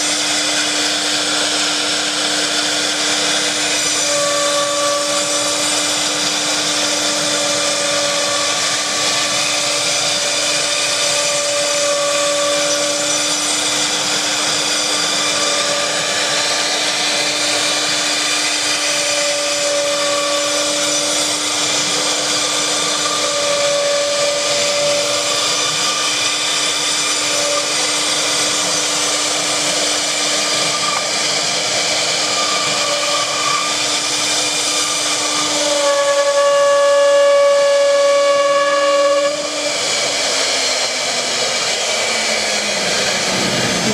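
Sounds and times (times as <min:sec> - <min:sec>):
higher machine whine: 0:00.0 - 0:43.9
router spindle whine and hiss: 0:00.0 - 0:43.9.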